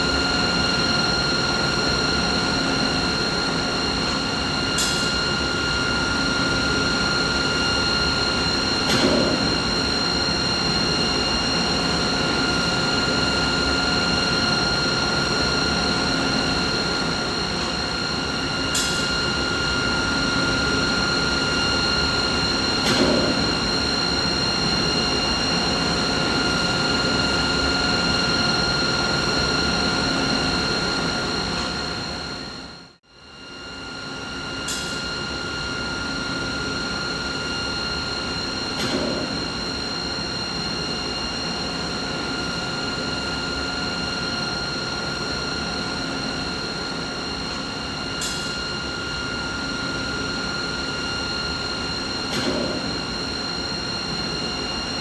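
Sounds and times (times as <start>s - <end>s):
machine whine with rumbling hiss: 0.0s - 55.0s.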